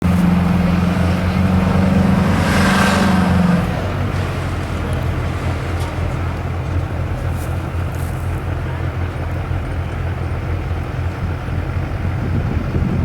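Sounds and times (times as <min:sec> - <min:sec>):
truck engine running low and deep: 0:00.0 - 0:13.0.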